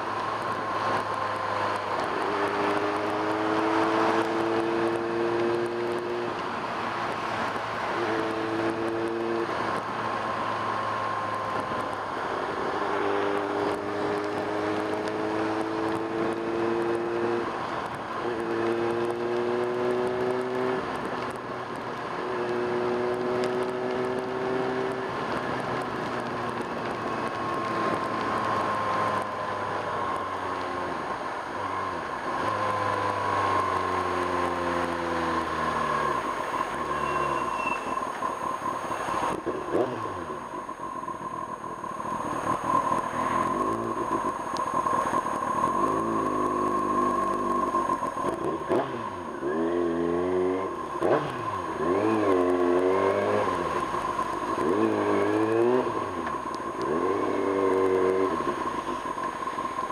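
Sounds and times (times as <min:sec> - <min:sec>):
motorcycle engine: 0:00.0 - 0:59.9
wind and road noise: 0:00.0 - 0:59.9.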